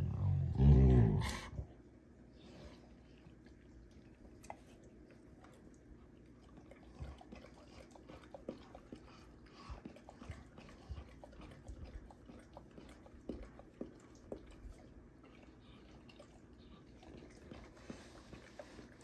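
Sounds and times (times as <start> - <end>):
dogs licking and nibbling: 2.5 - 19.0.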